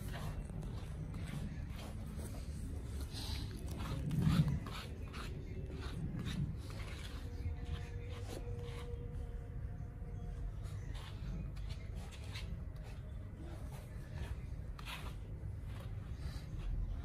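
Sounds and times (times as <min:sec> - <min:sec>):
rubbing and scraping on dog's coat: 0:00.0 - 0:09.4, 0:10.4 - 0:17.0
low steady hum: 0:00.0 - 0:17.0.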